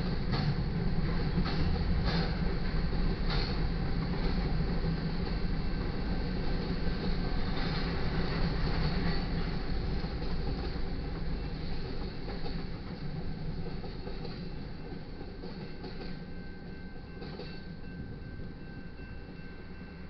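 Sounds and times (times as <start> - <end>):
freight train rolling past: 0.0 - 20.0.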